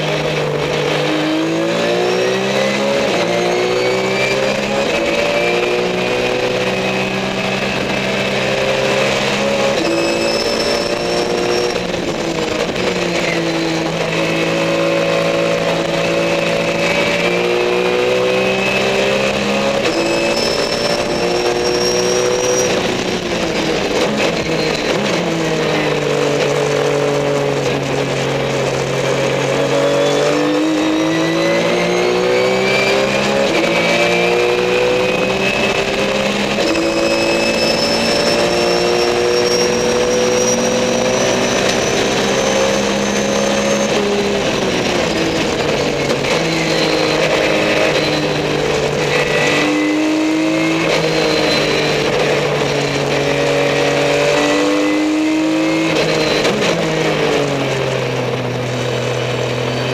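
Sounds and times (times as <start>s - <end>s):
high whine: 1.7s - 56.5s.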